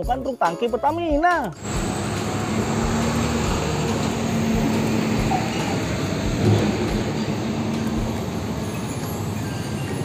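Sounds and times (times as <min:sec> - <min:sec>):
road and traffic noise: 0:01.3 - 0:10.0
truck engine running: 0:01.6 - 0:10.0.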